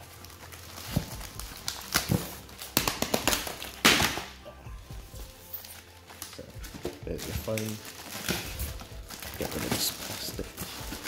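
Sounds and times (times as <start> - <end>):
packing tape ripping: 0.0 - 4.4, 5.5 - 11.0
plastic rustling: 0.0 - 4.4, 5.0 - 11.0.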